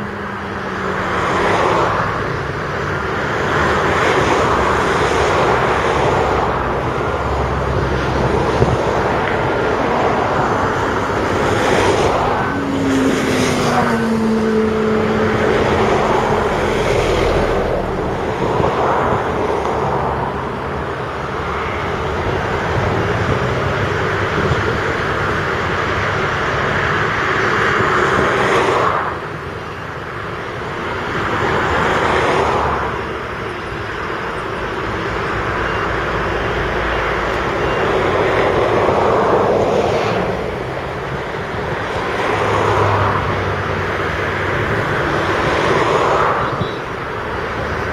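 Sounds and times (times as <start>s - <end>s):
dump truck engine: 0.0s - 47.9s
excavator engine: 0.0s - 47.9s.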